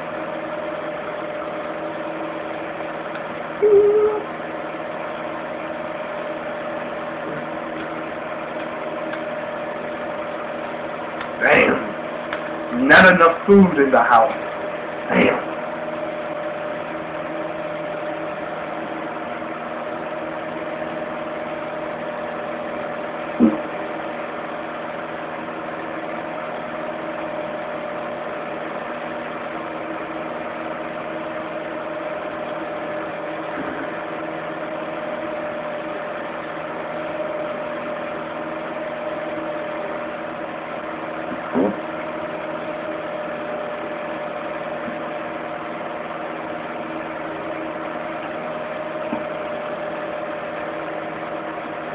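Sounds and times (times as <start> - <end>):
fan heater blower hum: 0.0 - 51.9.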